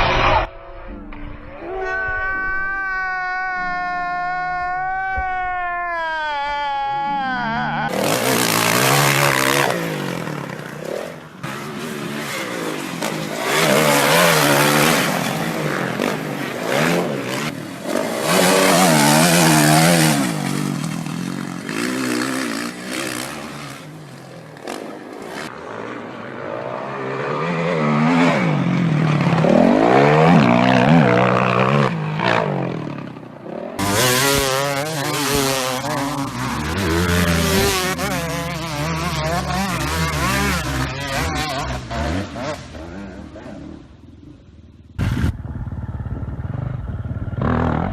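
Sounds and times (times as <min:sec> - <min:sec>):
dirt bike engines revving: 0:02.8 - 0:47.9.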